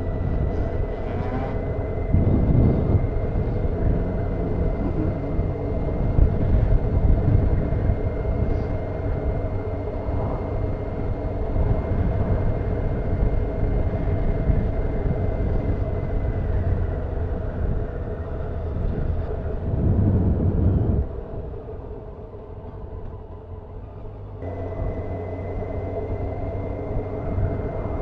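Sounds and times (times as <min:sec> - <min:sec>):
motorcycle engine running: 0:00.0 - 0:21.1, 0:22.3 - 0:28.0
wind rumble on microphone: 0:00.0 - 0:28.0.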